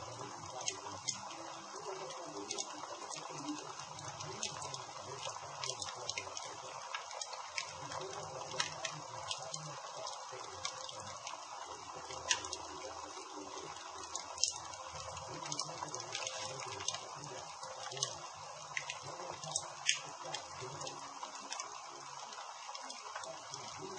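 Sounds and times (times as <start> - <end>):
campfire crackling: 0.0 - 23.9
fire hiss: 0.0 - 23.9.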